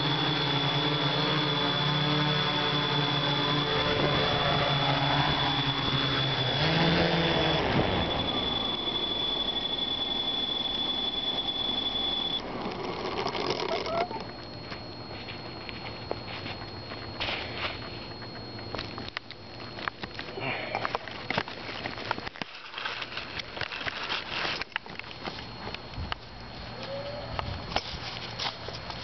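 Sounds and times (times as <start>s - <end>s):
thin steady high tone: 0.0s - 27.4s
drone motors and propellers: 0.0s - 27.8s.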